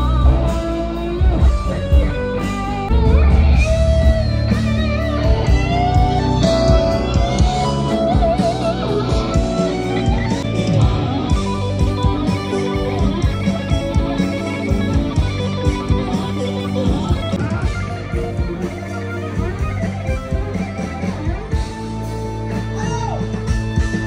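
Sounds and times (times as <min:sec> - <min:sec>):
electric guitar: 0:00.0 - 0:24.0
live rock band instrumental: 0:00.0 - 0:24.0.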